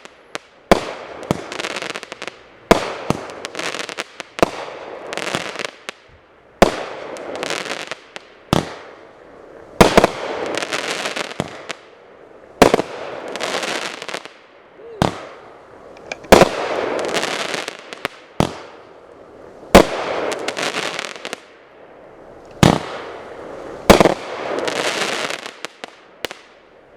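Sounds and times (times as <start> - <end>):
firework shots: 0.0 - 11.9, 12.6 - 14.4, 15.0 - 18.8, 19.7 - 21.5, 22.5 - 26.6
firework crackling: 0.0 - 26.8.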